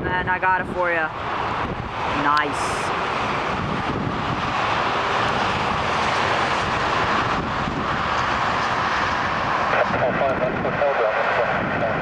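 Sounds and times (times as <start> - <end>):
jet engines landing: 0.0 - 12.0.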